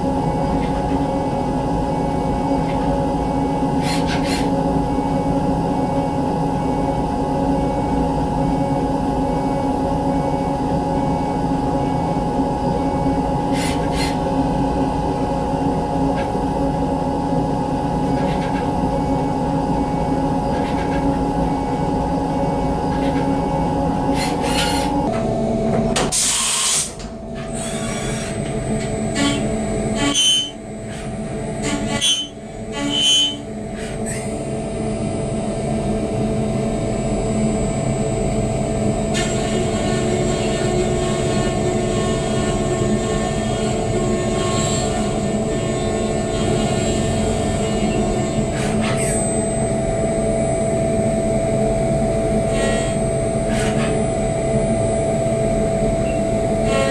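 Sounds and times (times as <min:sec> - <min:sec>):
milling machine whine: 0:00.0 - 0:56.9.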